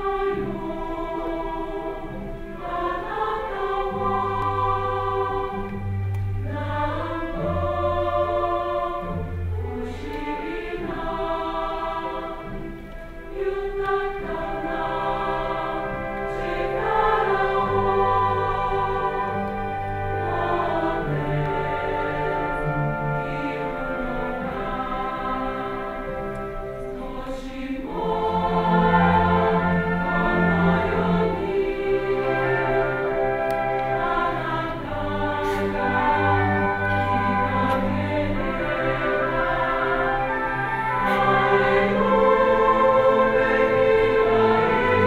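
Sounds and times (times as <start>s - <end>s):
choir singing long held notes: 0.0s - 45.0s.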